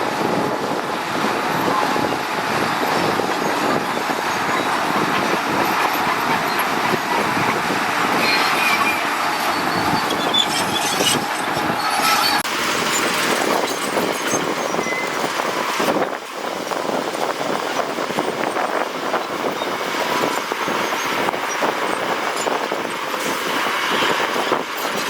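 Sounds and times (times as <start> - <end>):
bulldozer engine under load: 0.0 - 25.0
steel tracks grinding: 0.0 - 25.0
track chains squeaking: 1.5 - 25.0.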